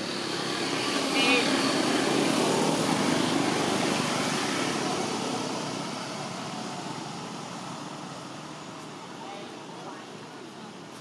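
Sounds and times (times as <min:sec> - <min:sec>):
passing vehicle engine and road noise: 0:00.0 - 0:11.0.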